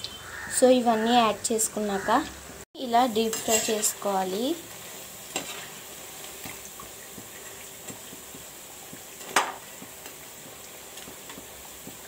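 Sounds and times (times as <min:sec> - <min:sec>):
deep-frying sizzle with crackles: 0:00.0 - 0:12.0.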